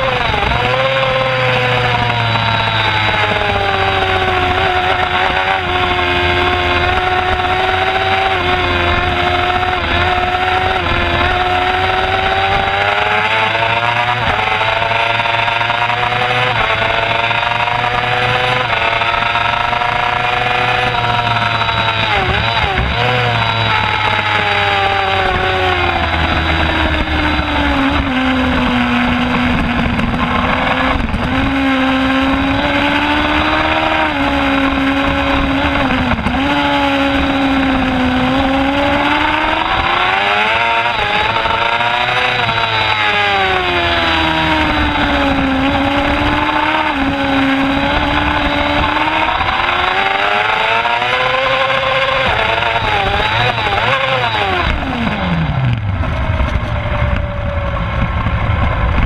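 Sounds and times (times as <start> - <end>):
heavy wind rush: 0.0 - 59.0
motorcycle engine at race speed: 0.0 - 59.0.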